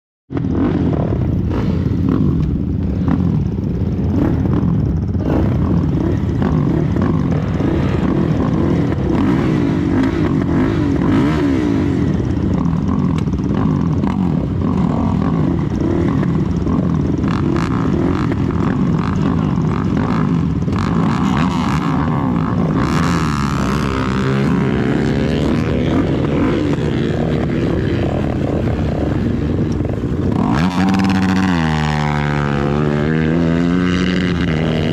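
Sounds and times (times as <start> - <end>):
atv engine revving: 0.3 - 34.9.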